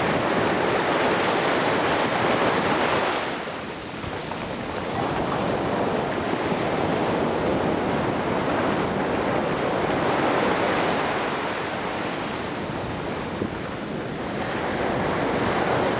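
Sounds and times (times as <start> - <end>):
small waves breaking on beach: 0.0 - 15.9.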